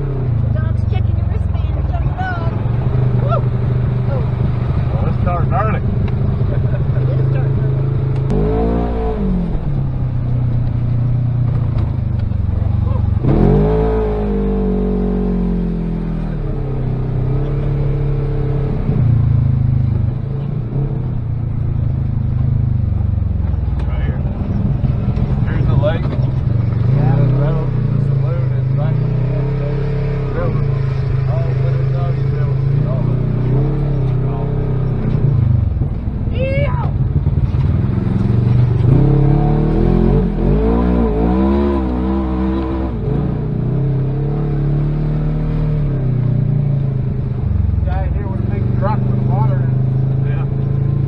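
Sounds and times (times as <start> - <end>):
utility vehicle engine running: 0.0 - 51.0.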